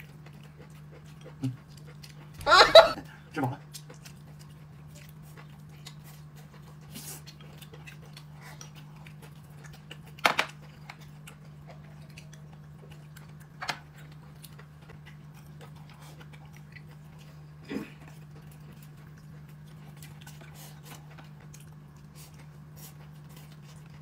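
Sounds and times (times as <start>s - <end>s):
quiet chewing: 0.0s - 24.0s.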